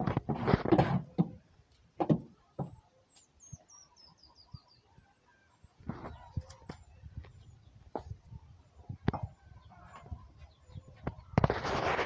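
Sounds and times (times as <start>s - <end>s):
faint chicken clucking: 0.9s - 12.0s.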